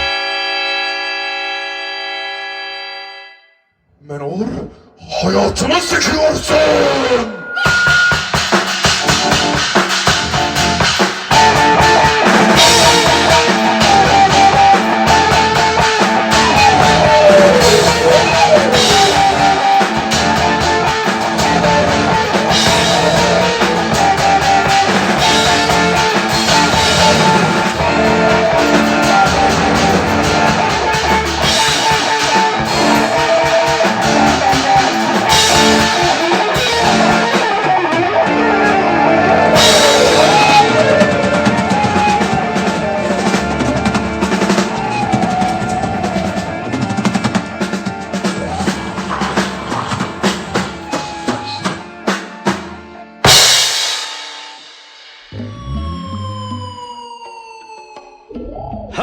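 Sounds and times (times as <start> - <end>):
instrumental rock music: 6.6 - 56.8.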